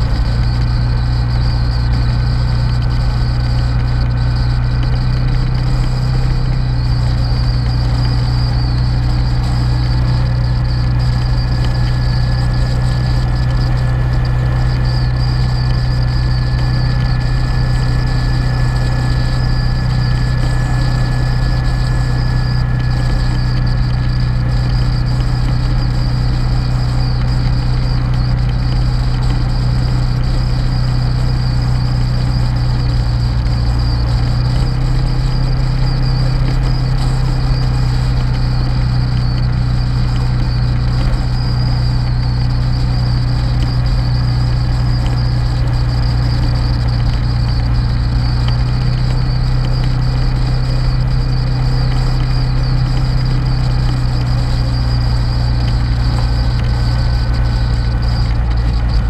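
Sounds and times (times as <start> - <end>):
motorcycle engine cruising: 0.0 - 59.0
road noise: 0.0 - 59.0.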